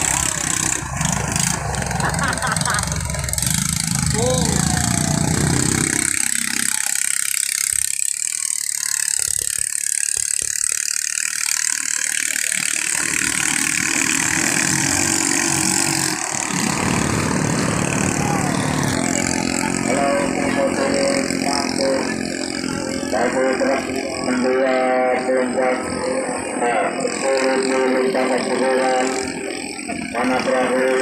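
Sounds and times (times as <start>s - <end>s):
boat engines running: 0.0s - 31.0s.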